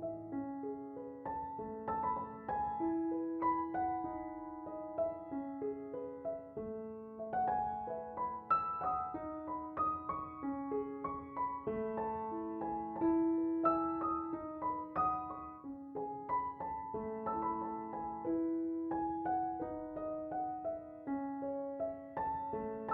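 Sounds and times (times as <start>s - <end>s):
calm piano music: 0.0s - 22.9s.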